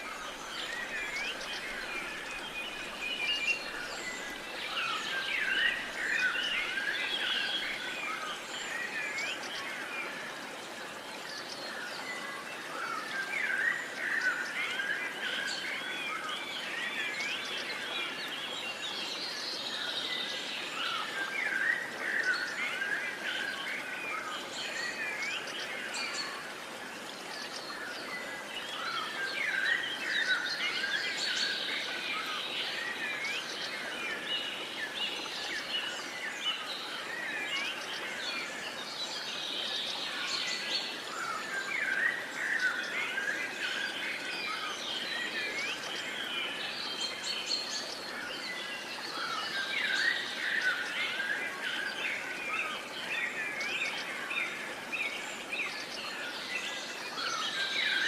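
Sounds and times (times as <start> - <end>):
faint outdoor hiss: 0.0 - 58.0.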